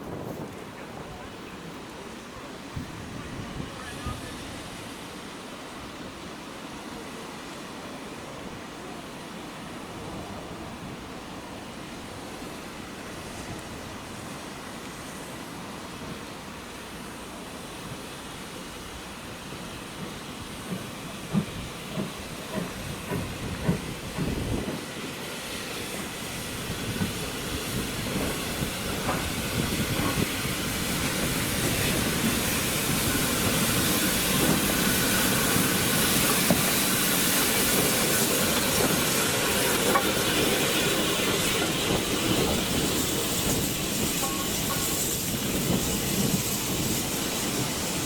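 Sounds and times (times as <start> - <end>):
steam locomotive hissing: 0.0 - 48.0.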